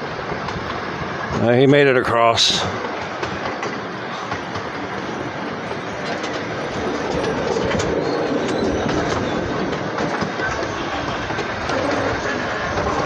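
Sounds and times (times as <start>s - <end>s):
clickety-clack of wheels: 0.0s - 1.4s, 2.6s - 13.0s
train rumbling on track: 0.0s - 13.0s.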